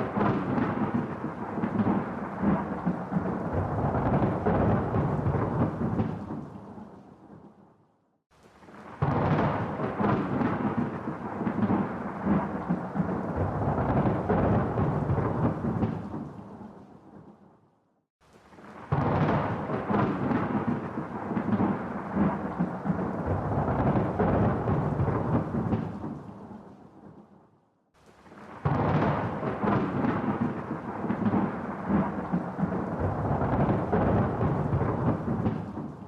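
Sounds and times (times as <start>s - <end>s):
thunder rolling: 0.0s - 7.5s, 8.6s - 17.2s, 18.5s - 27.2s, 28.2s - 36.0s.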